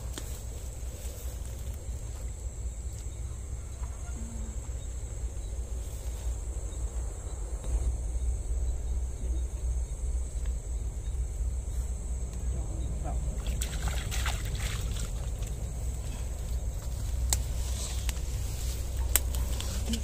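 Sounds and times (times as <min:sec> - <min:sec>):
night insects chirring: 0:00.0 - 0:20.0
steady low rumble: 0:00.0 - 0:20.0.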